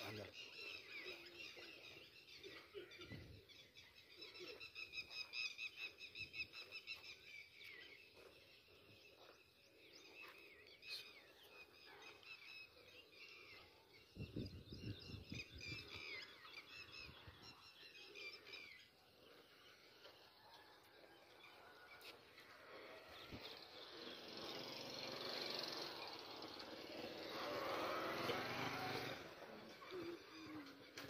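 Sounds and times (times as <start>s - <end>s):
faint bird chirping: 0.0s - 31.0s.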